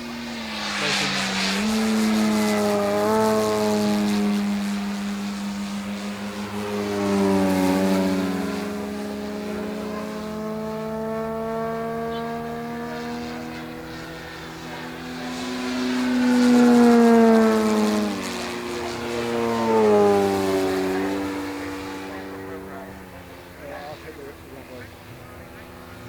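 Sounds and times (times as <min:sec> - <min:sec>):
model plane propeller drone: 0:00.0 - 0:26.0.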